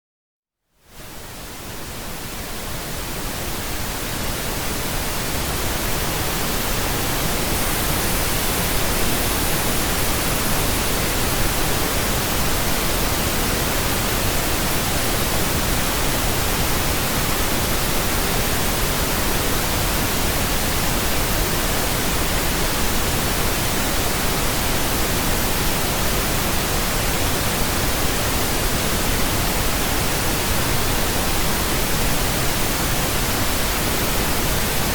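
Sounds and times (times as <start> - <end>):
pink noise hiss: 0.7 - 34.9.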